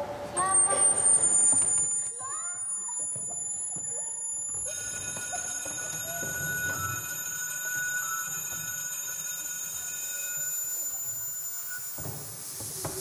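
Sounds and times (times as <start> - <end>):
high ringing tones: 0.0 - 13.0
thin high rising whine: 0.0 - 13.0.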